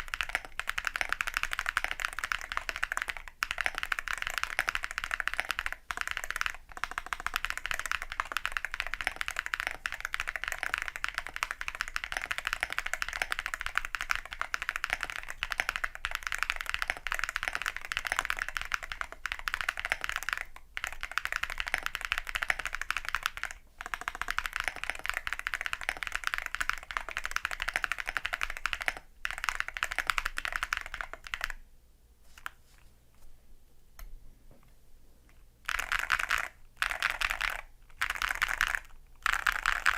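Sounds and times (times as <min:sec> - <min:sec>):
mechanical keyboard typing: 0:00.0 - 0:31.6, 0:35.7 - 0:39.9.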